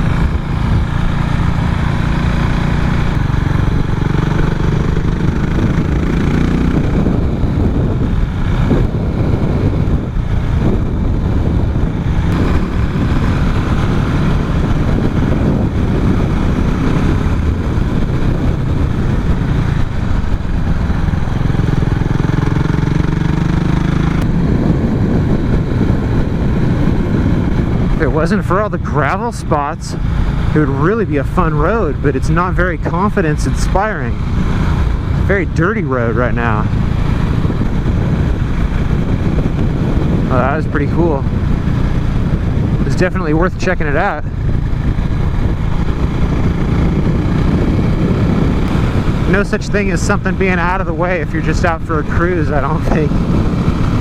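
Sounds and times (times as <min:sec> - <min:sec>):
motorcycle engine running: 0:00.0 - 0:54.0
wind rush: 0:00.0 - 0:54.0.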